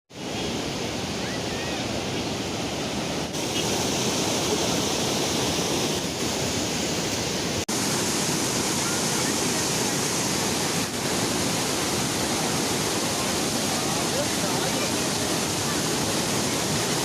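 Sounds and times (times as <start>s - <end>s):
rushing flowing water: 0.1s - 17.0s.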